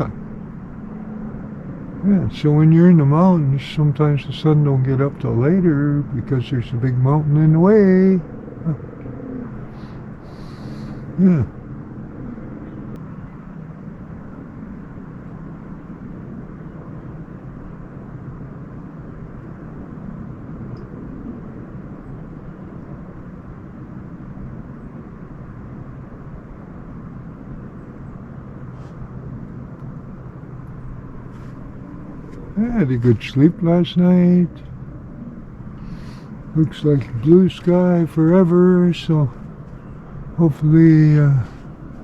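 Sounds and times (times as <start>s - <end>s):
boat engine humming: 0.0s - 42.0s.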